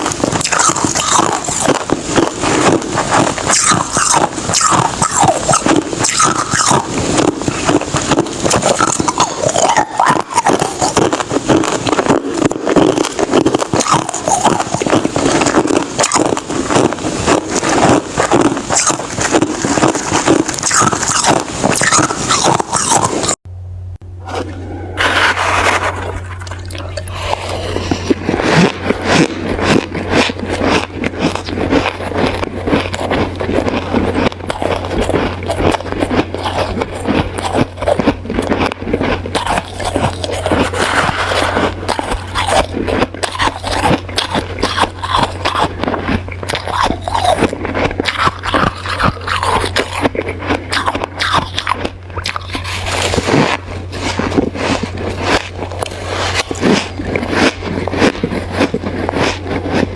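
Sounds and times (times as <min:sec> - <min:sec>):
ice being crunched by chewing: 0:00.0 - 0:23.4, 0:25.0 - 0:59.9
steady low hum: 0:00.0 - 0:59.9.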